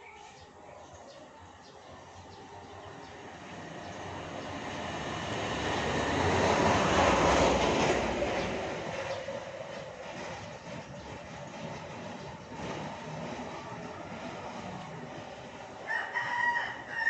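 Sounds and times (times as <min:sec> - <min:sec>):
vehicle passing by: 0:02.2 - 0:17.0.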